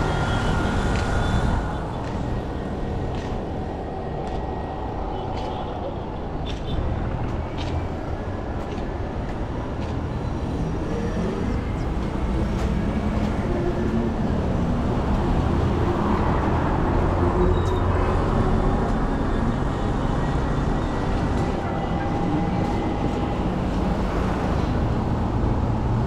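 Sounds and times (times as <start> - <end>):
large vehicle rumbling: 0.0 - 26.0.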